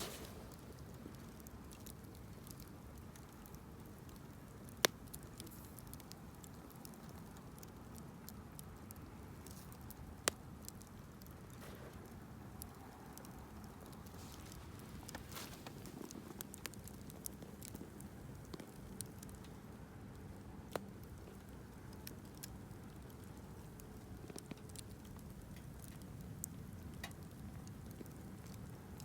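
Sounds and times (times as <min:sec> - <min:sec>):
bonfire crackling and popping: 0:00.0 - 0:29.0
low steady fire hiss: 0:00.0 - 0:29.0.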